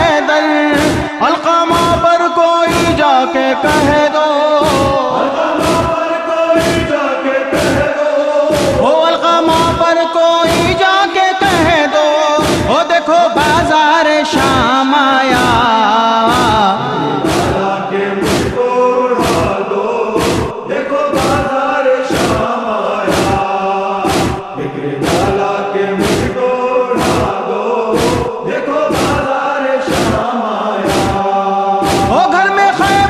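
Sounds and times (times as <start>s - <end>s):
rhythmic chest-beating: 0.0s - 33.0s
voices chanting a slow lament: 0.0s - 33.0s.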